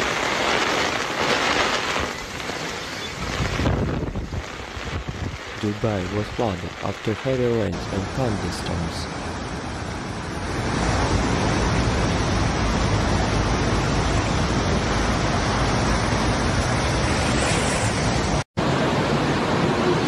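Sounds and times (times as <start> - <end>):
floodwater rushing: 0.0 - 20.0
heavy rain: 0.0 - 20.0.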